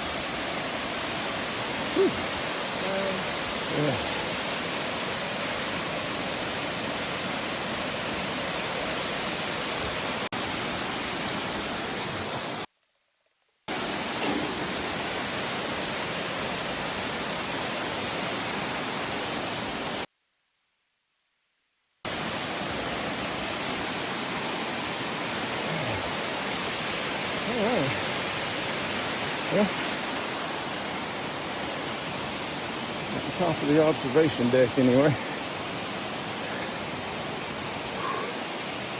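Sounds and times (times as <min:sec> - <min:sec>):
waterfall rushing: 0:00.0 - 0:12.7, 0:13.7 - 0:20.1, 0:22.1 - 0:38.9.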